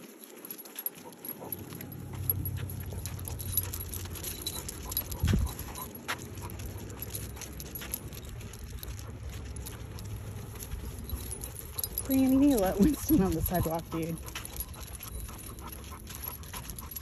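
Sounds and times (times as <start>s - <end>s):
harness jingles and paw clicks: 0.0s - 17.0s.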